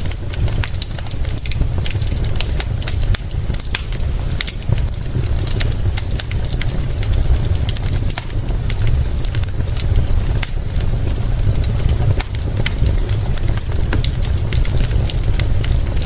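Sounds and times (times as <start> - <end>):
faint rain hiss: 0.0 - 16.0
wood fire crackling: 0.0 - 16.0.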